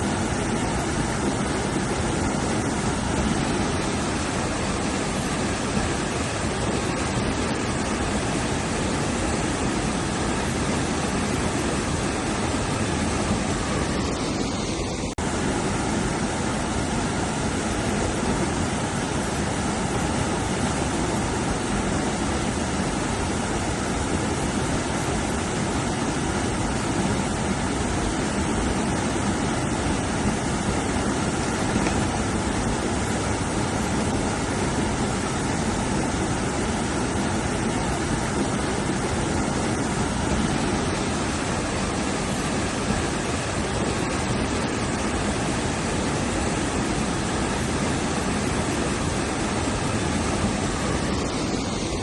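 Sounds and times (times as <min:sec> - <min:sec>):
fast-flowing river water: 0:00.0 - 0:52.0.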